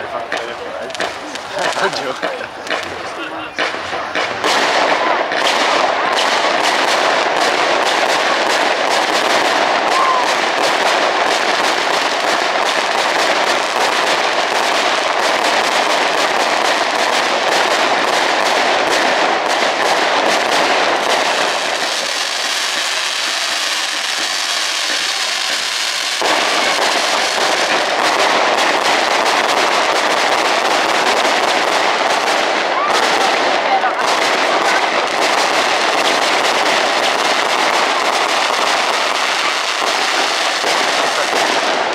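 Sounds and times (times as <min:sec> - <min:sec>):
fireworks crackling: 0:00.0 - 0:41.9.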